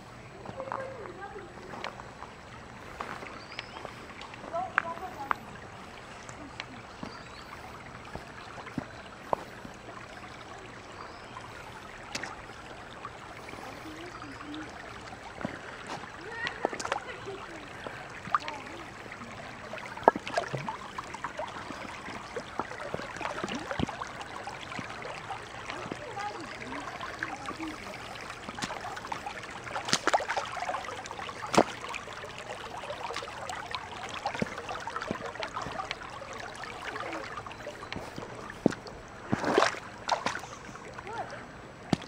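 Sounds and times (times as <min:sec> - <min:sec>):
creek running over rocks: 0:00.0 - 0:42.0
boots wading through water: 0:00.4 - 0:42.0.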